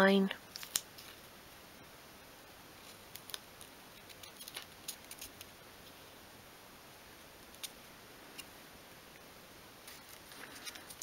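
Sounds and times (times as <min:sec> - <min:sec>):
masking tape crackling: 0:00.1 - 0:01.8, 0:02.4 - 0:06.2, 0:07.4 - 0:11.0.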